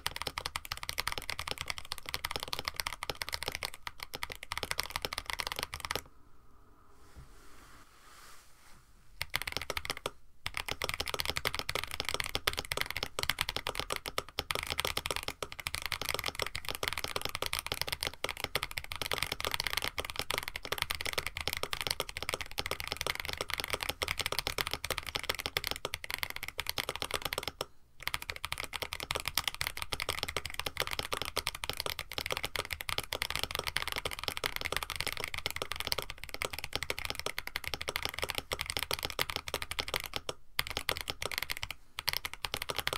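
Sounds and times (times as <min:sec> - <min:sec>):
mechanical keyboard typing: 0:00.0 - 0:06.1, 0:09.2 - 0:42.9.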